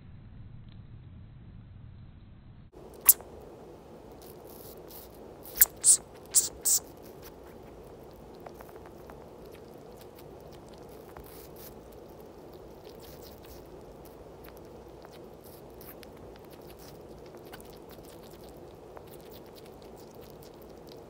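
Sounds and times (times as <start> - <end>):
small animals chewing apple: 4.1 - 21.0.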